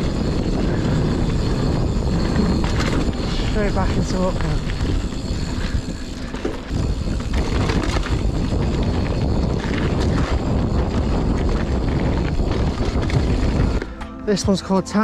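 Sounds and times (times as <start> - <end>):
bike clicks and rattles: 0.0 - 14.2
bike rumbling on dirt trail: 0.0 - 14.6.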